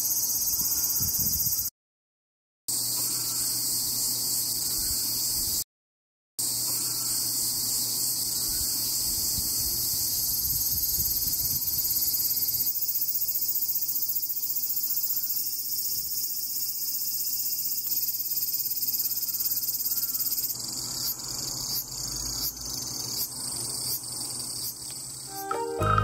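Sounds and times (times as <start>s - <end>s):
cicada buzzing: 0.0s - 1.7s, 2.7s - 5.6s, 6.4s - 25.4s.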